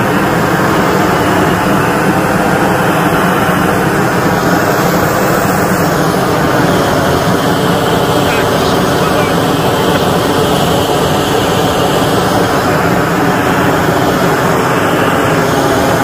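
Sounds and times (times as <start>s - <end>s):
gas torch roaring: 0.0s - 16.0s.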